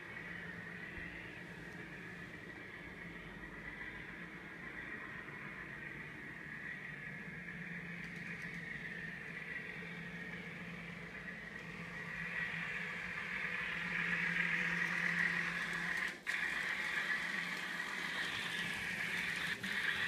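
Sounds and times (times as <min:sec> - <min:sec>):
model train engine sound: 0:00.0 - 0:20.0
model train rolling on track: 0:00.0 - 0:20.0.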